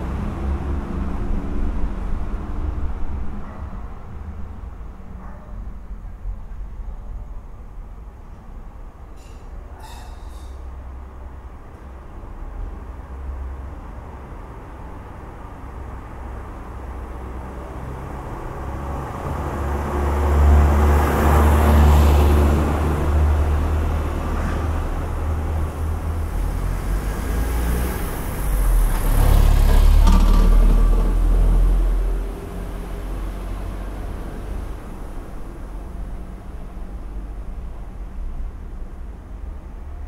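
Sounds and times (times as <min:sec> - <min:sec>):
vehicles passing on street: 0:00.0 - 0:40.0.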